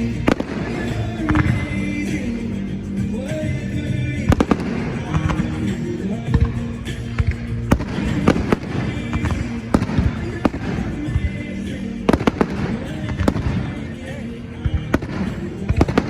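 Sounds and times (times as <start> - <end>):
fireworks bangs and crackles: 0.0 - 2.4, 3.6 - 16.0
music playing: 0.0 - 16.0.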